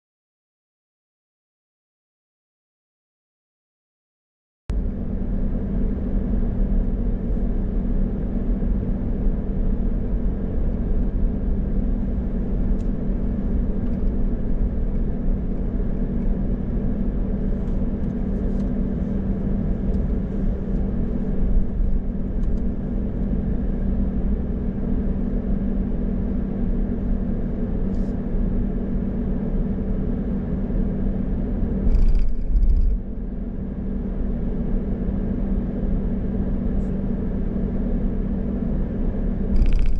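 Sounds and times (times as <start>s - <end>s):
car engine and road noise: 4.8s - 39.9s.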